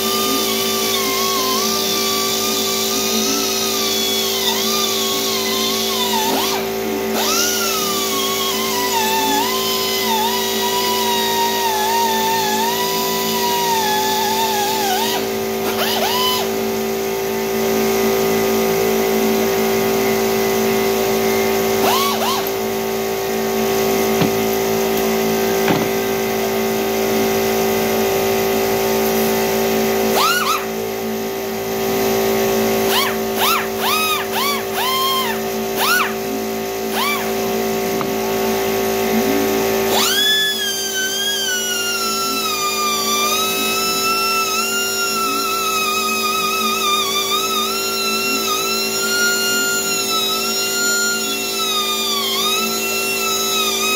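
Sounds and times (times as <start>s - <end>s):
pneumatic die grinder whine: 0.0s - 53.9s.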